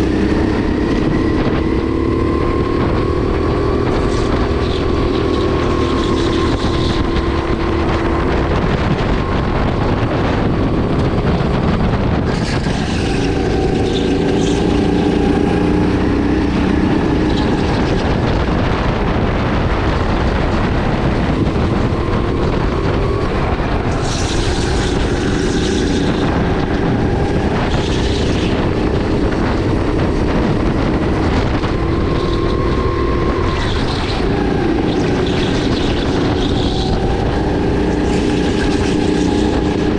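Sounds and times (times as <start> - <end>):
kart engine running: 0.0 - 39.9
wind noise: 0.0 - 39.9.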